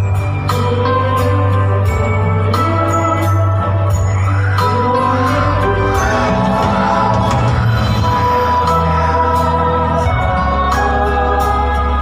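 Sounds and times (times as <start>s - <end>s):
music with choir-like chords: 0.0s - 12.0s.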